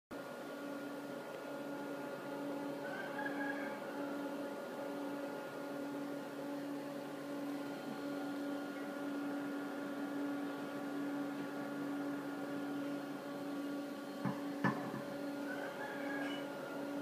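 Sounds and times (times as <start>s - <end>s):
electronic equipment humming: 0.1s - 17.0s.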